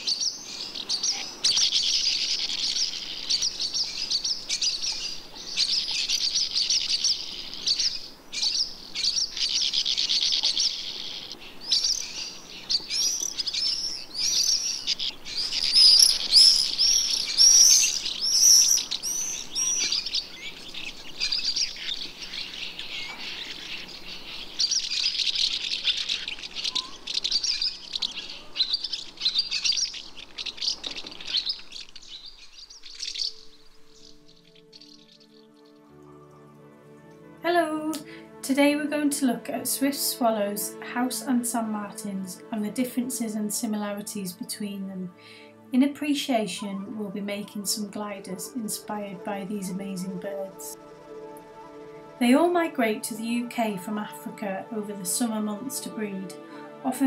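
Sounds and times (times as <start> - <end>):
shrill bird calls: 0.0 - 36.4, 46.4 - 57.0
small birds twittering and chirping: 0.0 - 37.4, 38.0 - 57.0.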